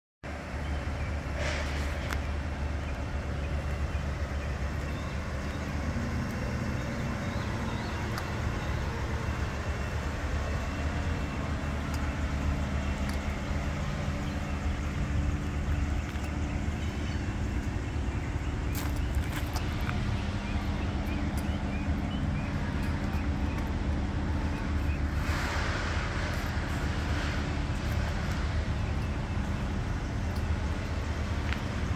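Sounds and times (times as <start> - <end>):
low mechanical drone: 0.3 - 31.9.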